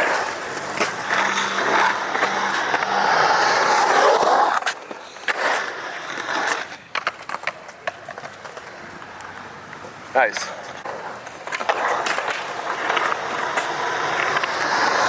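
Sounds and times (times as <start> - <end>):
skateboard sharp clacks: 0.0 - 15.0
skateboard wheels rolling on concrete: 0.0 - 15.0.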